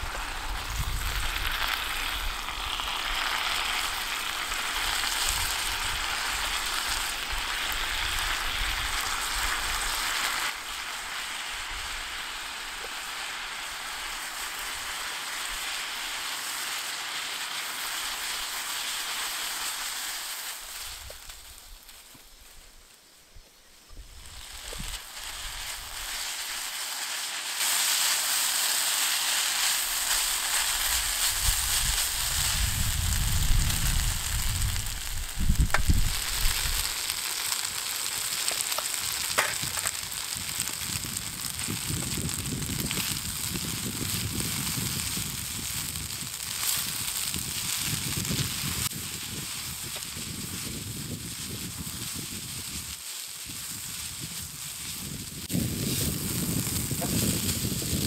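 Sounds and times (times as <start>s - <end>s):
noodles sizzling in a frying pan: 0.0s - 23.1s, 23.8s - 58.0s.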